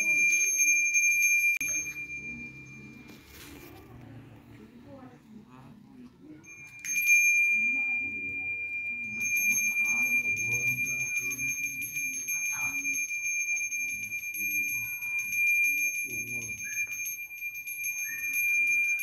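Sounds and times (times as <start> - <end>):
pulsing high-pitched ringing tone: 0.0 - 3.5, 6.4 - 19.0.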